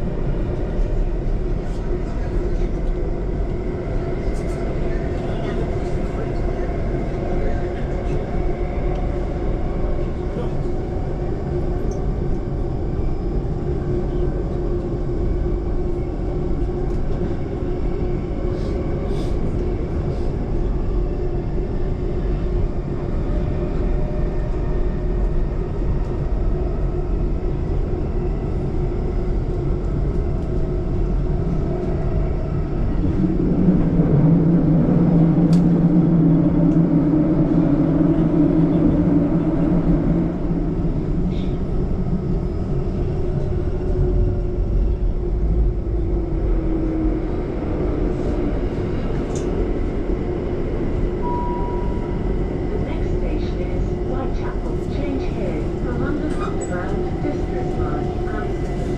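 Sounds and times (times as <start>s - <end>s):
train hum: 0.0s - 58.9s
train rumbling: 0.0s - 58.9s.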